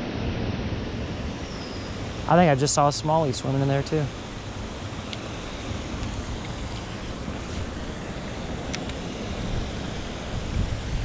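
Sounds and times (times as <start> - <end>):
wind on microphone: 0.0 - 3.5, 4.1 - 11.0
creek water flowing: 1.0 - 11.0.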